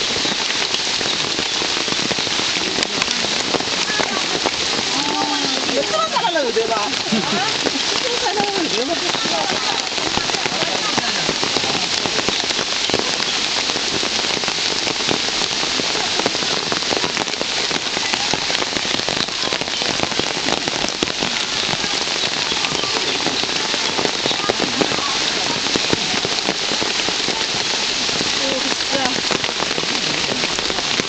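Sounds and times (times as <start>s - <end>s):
close raindrops striking: 0.0s - 31.0s
steady rain falling: 0.0s - 31.0s.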